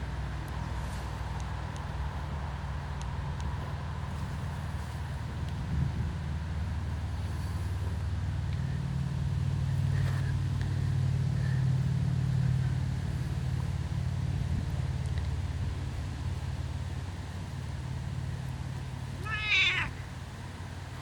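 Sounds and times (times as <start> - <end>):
passing motor vehicle rumble: 0.0 - 21.0.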